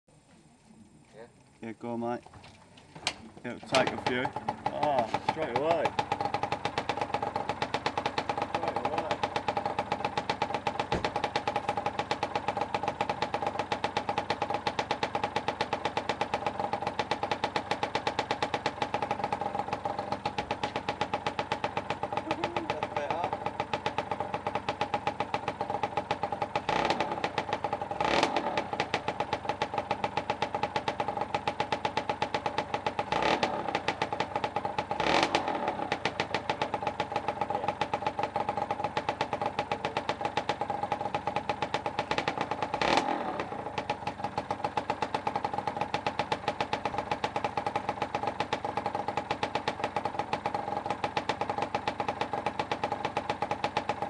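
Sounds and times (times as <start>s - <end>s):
two-stroke motorcycle engine revving: 3.5s - 54.0s.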